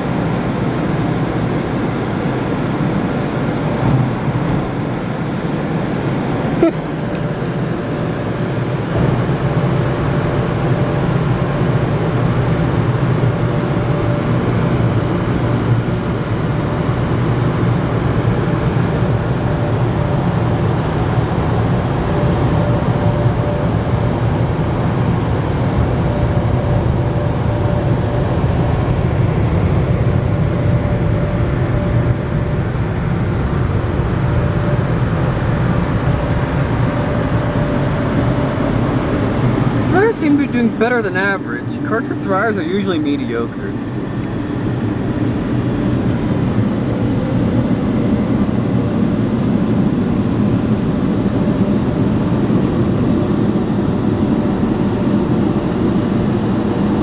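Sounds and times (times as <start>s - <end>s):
dryer blowers rushing air: 0.0s - 57.0s
faint steady whine: 0.0s - 57.0s.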